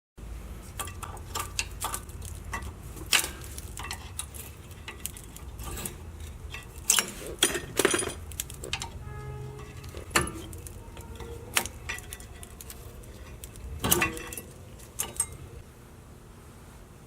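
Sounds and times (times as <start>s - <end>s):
steady low hum: 0.2s - 17.0s
hand tools clinking on metal: 0.8s - 15.6s.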